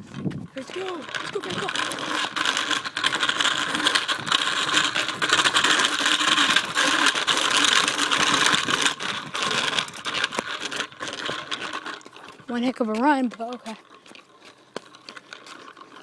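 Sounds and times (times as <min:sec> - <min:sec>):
mini bike rattling clatter: 0:00.0 - 0:16.0.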